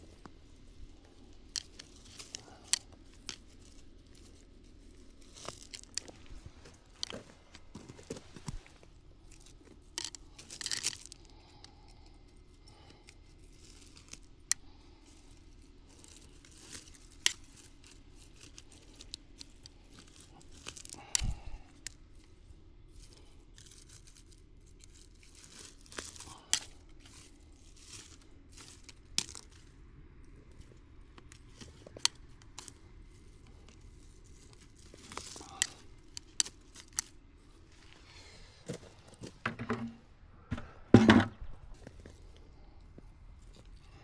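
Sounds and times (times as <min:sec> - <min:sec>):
rustling weeds and brush: 0:00.0 - 0:39.4.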